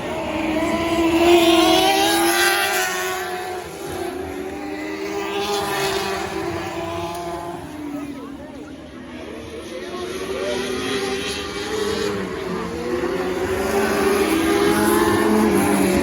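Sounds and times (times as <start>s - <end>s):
race car engines passing by: 0.0s - 16.0s.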